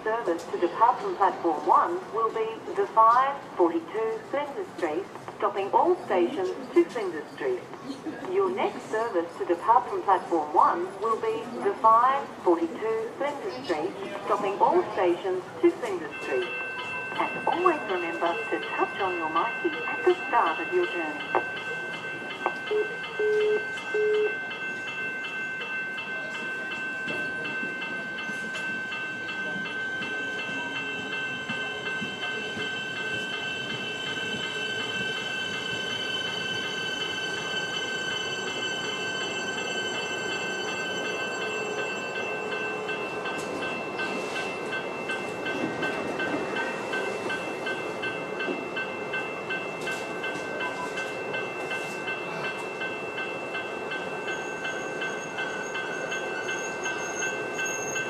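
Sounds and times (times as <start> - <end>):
train clanks: 0.0 - 58.0
level crossing bells ringing: 8.4 - 58.0
electric train rumble: 8.5 - 58.0.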